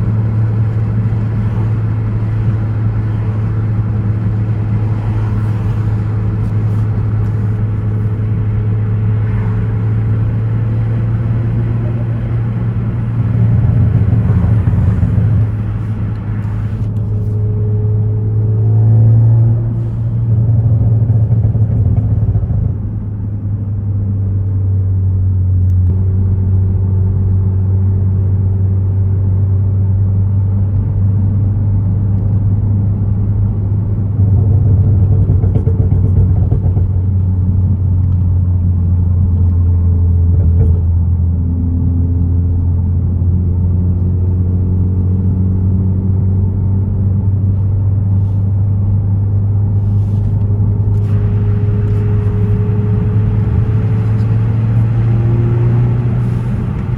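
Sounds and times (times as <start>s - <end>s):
car engine and exhaust drone: 0.0s - 56.9s.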